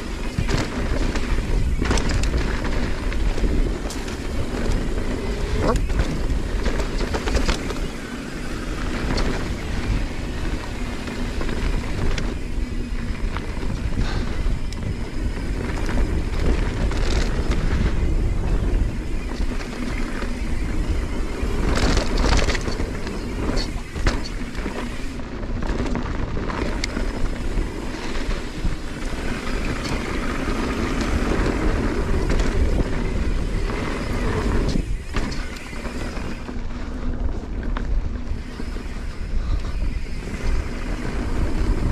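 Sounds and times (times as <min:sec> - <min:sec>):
bike clicks and rattles: 0:00.0 - 0:41.9
tyres rumbling on dirt: 0:00.0 - 0:41.9
wind rush on microphone: 0:00.0 - 0:41.9.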